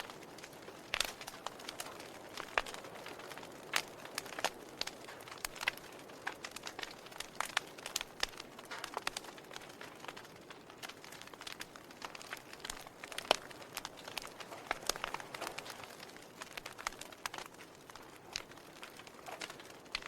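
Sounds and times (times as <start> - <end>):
soft steady hiss: 0.0 - 20.0
wood fire crackling: 0.0 - 20.0.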